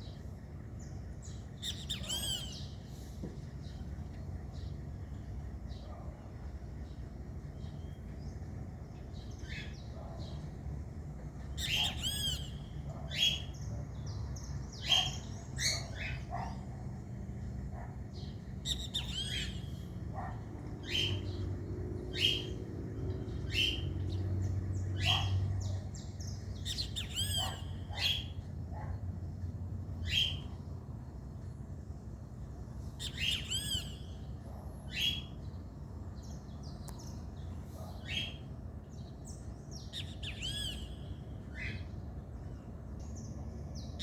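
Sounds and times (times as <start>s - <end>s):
birds chirping: 0.0s - 44.0s
low steady rumble: 0.0s - 44.0s.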